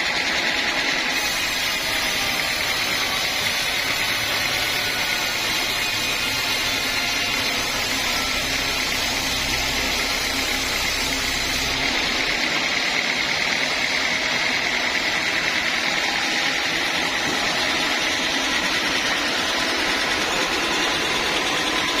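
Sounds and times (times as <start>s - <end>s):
sawmill saw running: 0.0s - 22.0s.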